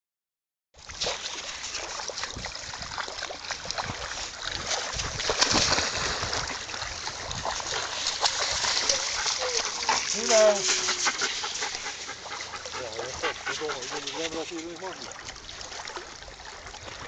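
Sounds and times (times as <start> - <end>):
dogs splashing through water: 0.8 - 17.0.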